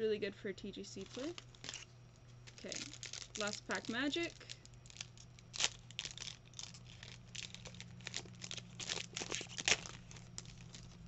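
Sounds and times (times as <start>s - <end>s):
steady low hum: 0.0s - 11.0s
foil wrapper crinkling and tearing: 1.0s - 11.0s.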